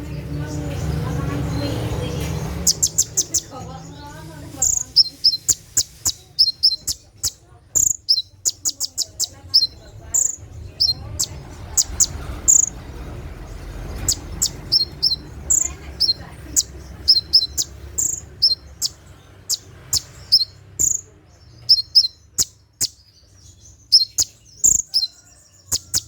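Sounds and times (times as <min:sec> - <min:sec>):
sunbird chirping and whistling: 0:01.0 - 0:12.8, 0:13.6 - 0:26.0.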